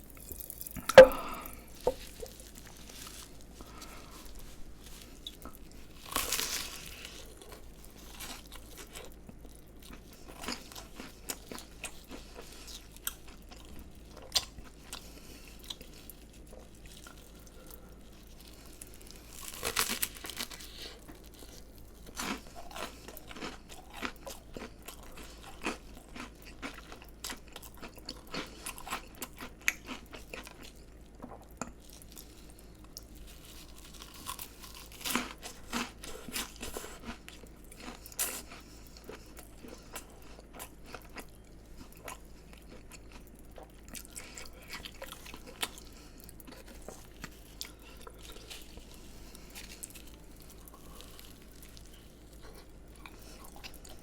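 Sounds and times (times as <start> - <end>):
crunchy bites into fried food: 0.0 - 54.0
crunchy chewing: 0.0 - 54.0.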